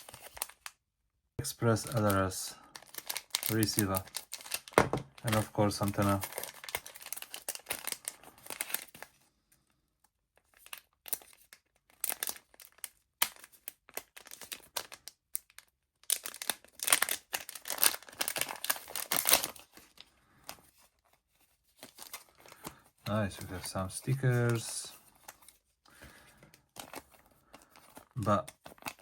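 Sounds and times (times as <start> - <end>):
plastic packaging crinkling: 0.0 - 0.7, 1.6 - 9.2, 10.4 - 29.0.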